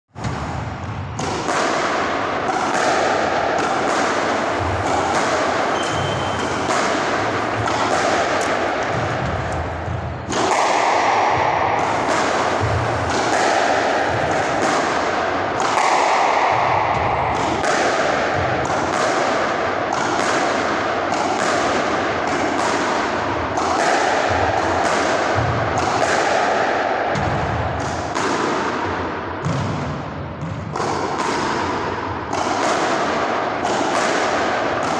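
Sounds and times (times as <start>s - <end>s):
squash ball hitting racket and walls: 0.1s - 34.9s.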